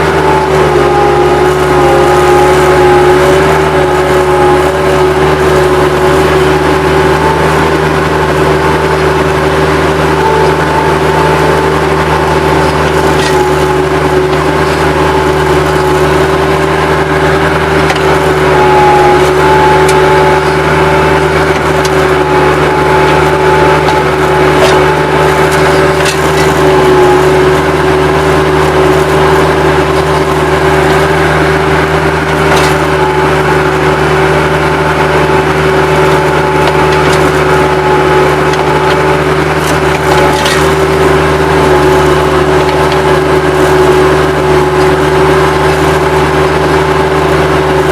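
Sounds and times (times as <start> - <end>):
skid-steer loader running: 0.0 - 47.9.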